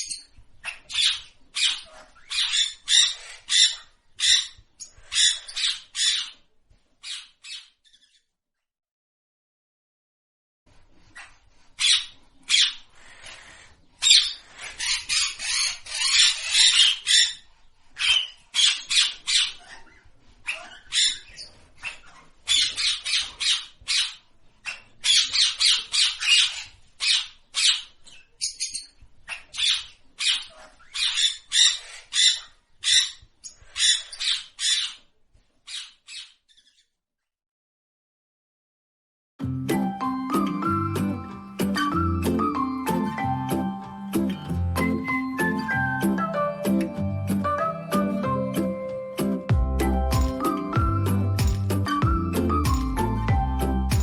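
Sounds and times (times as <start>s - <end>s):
parrot calling: 0.0s - 8.2s, 11.0s - 35.1s, 39.7s - 54.0s.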